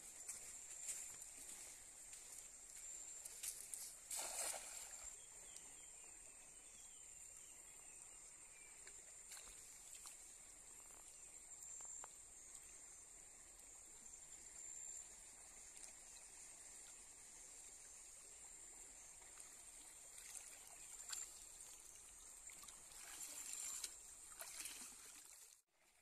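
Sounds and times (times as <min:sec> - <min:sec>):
faint high-pitched hiss: 0:00.0 - 0:25.4.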